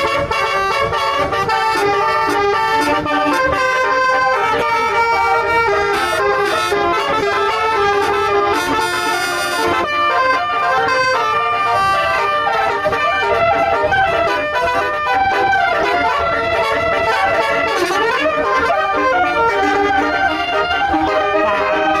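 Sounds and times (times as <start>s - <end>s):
musical bus horn melody: 0.0s - 22.0s.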